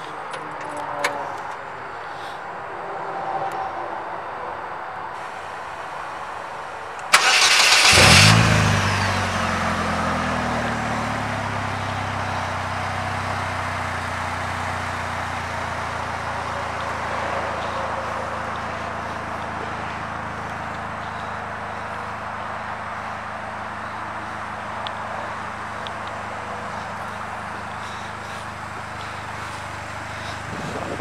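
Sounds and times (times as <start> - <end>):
car engine starting and idling: 5.2 - 31.0.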